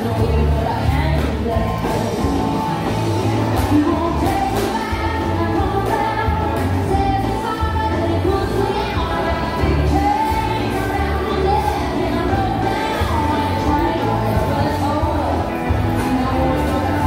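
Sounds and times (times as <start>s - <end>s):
continuous bass line: 0.0s - 17.0s
singer over a band: 0.0s - 17.0s.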